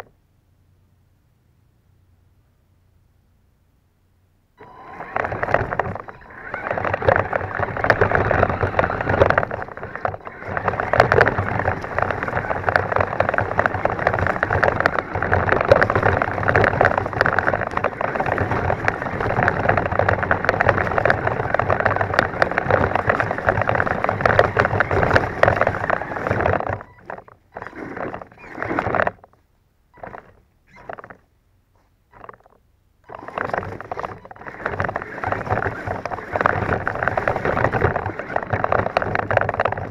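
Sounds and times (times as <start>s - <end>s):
toy truck rattling over grass: 4.6s - 29.4s, 30.0s - 31.3s, 32.1s - 39.9s.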